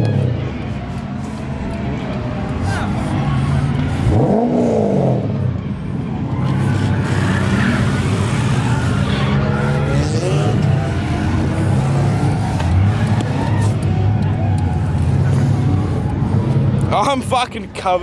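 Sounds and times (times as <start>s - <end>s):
car engine revving: 0.0s - 17.5s
steady rush of noise: 0.0s - 18.0s.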